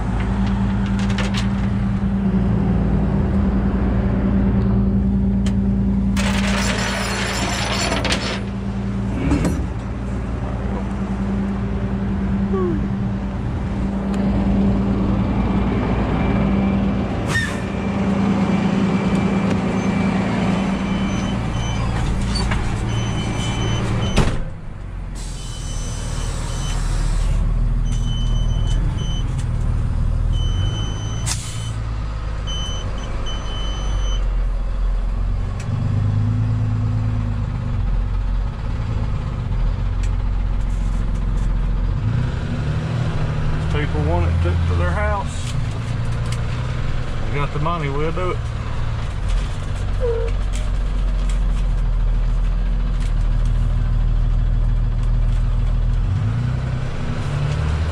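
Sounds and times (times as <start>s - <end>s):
truck engine and road noise: 0.0s - 57.9s.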